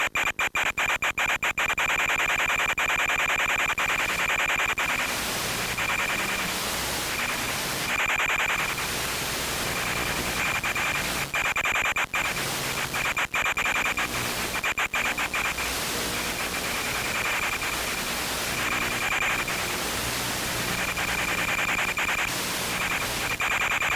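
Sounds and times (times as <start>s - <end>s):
high steady whine: 0.0s - 23.9s
static hiss: 0.0s - 23.9s.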